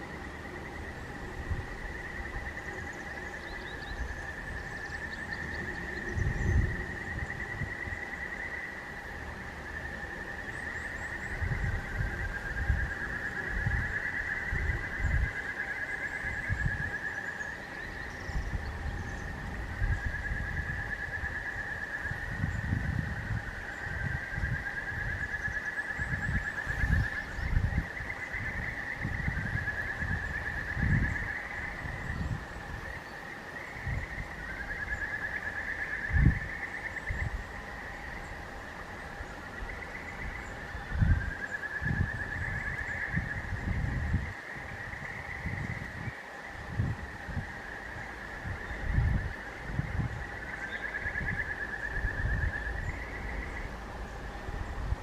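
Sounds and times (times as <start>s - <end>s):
wind gusting on microphone: 0.0s - 55.0s.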